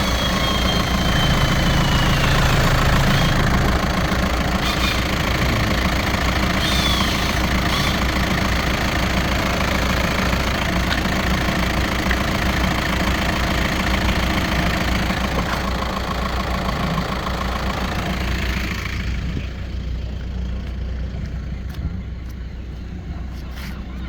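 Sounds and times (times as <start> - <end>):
diesel engine idling with clatter: 0.0 - 24.0.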